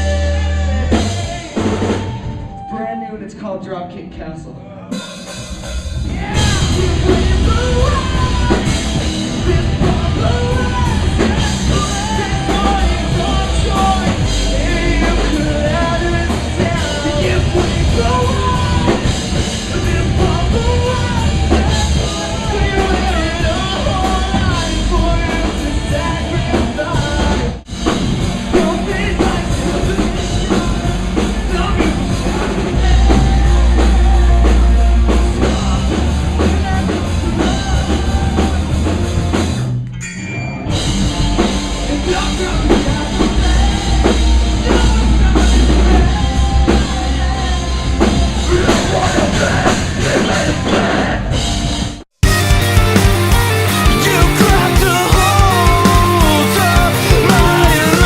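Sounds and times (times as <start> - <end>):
punk rock band playing: 0.0 - 4.1, 4.8 - 39.9, 40.5 - 58.0.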